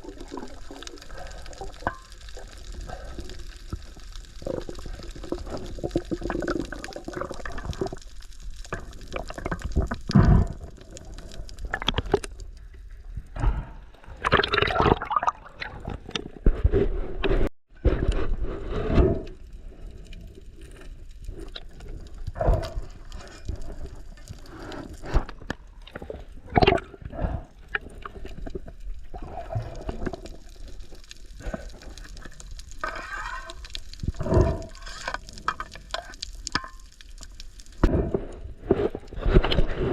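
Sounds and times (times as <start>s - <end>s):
sea water sloshing and gurgling: 0.0s - 16.8s, 17.8s - 39.9s.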